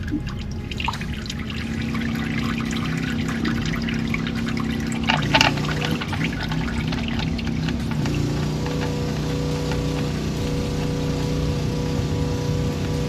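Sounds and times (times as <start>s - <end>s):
oil pouring into drain pan: 0.0s - 13.0s
steady low hum: 0.0s - 13.0s.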